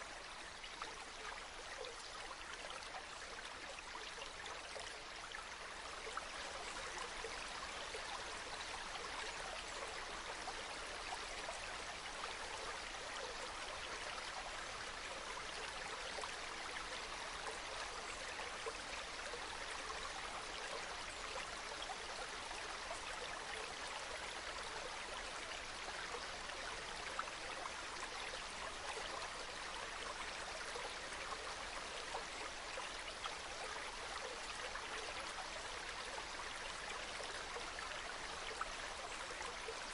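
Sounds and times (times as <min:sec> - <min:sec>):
mountain stream trickling over rocks: 0:00.0 - 0:39.9.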